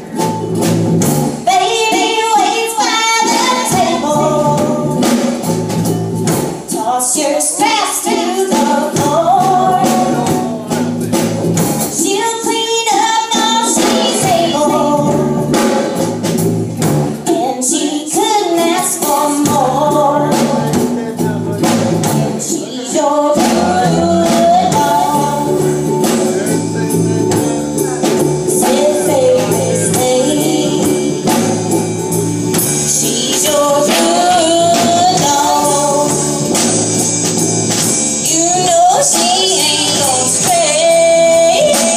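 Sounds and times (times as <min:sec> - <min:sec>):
drum kit with cymbals: 0:00.0 - 0:41.9
electric guitars: 0:00.0 - 0:41.9
woman singing lead: 0:01.3 - 0:26.7, 0:27.3 - 0:41.9.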